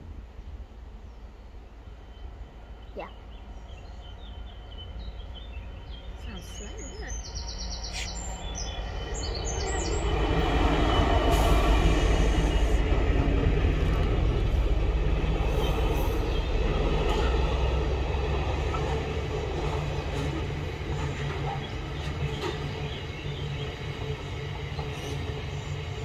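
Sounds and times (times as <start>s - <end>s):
freight train rumbling over bridge: 0.0s - 26.0s.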